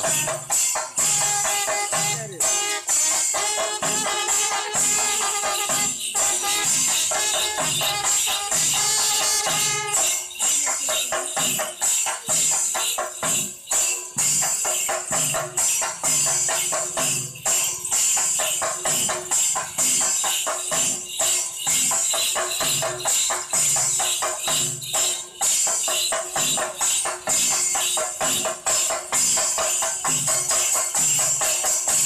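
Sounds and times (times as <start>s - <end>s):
percussion ensemble: 0.0s - 32.0s
small hand cymbals jangling: 0.0s - 32.0s.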